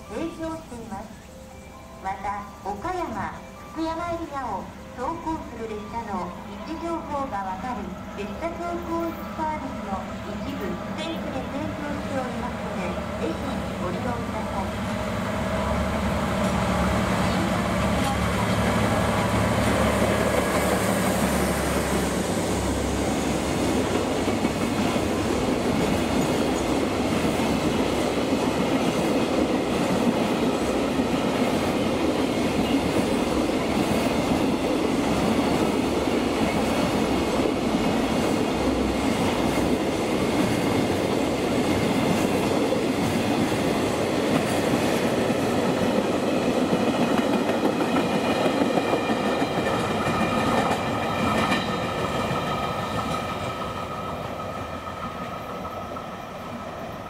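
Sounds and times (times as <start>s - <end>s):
freight train wheels on rail: 3.5s - 57.0s
diesel locomotive engine: 4.4s - 57.0s.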